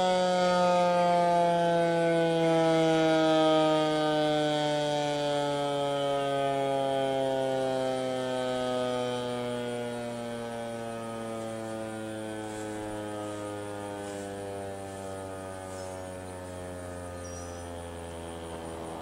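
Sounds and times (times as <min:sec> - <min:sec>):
warning siren winding down: 0:00.0 - 0:19.0.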